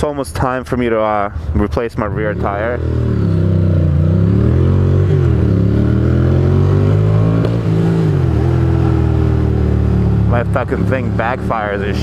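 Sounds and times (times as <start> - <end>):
motorcycle engine revving: 2.0 - 12.0.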